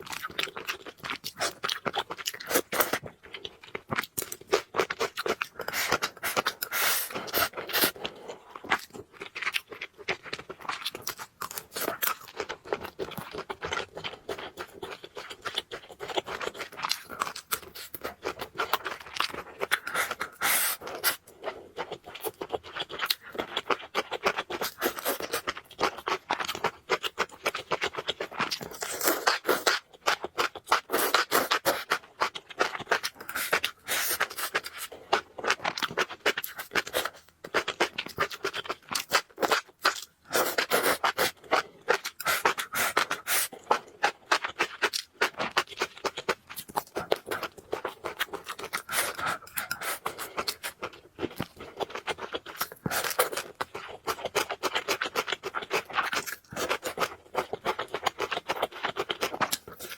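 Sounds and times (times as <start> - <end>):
chewing and slurping noodles: 0.0 - 59.9.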